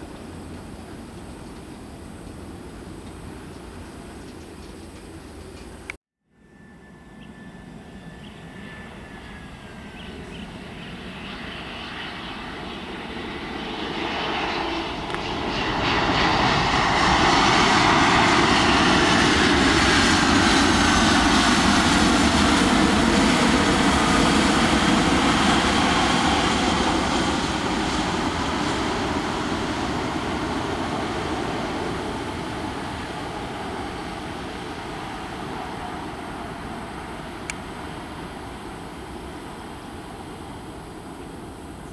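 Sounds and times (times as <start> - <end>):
jet engines passing: 6.5 - 41.9.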